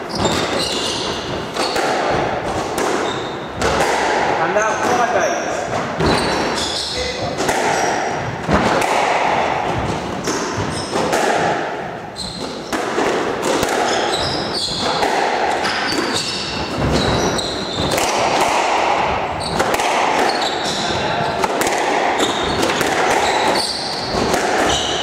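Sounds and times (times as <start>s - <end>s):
shoes squeaking on wooden floor: 0.0s - 8.6s, 9.4s - 11.2s, 12.0s - 25.0s
squash ball smacking: 0.0s - 25.0s.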